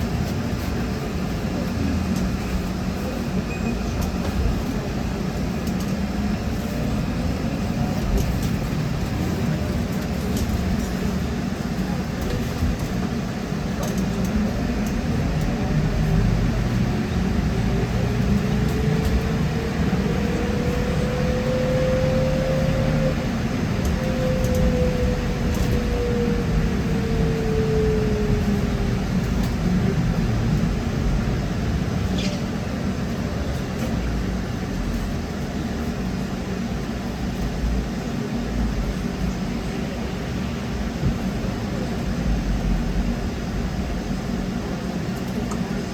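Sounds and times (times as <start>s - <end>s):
bus ride rumble: 0.0s - 45.9s.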